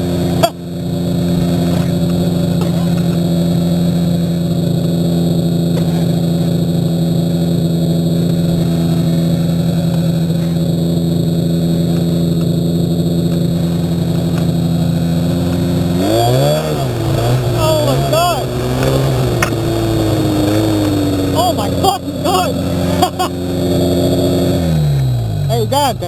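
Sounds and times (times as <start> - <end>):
snowmobile engine idling: 0.0 - 26.0.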